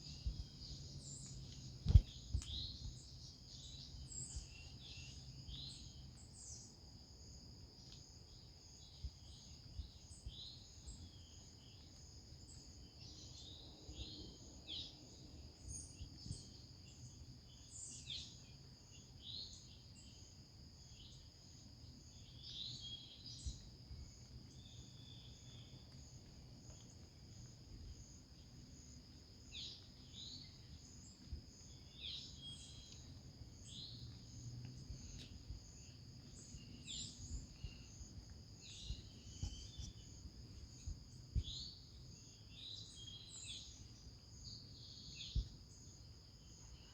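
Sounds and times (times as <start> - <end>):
small birds chirping: 0.0 - 6.7, 7.8 - 20.3, 20.9 - 46.9
insects trilling: 0.0 - 46.9.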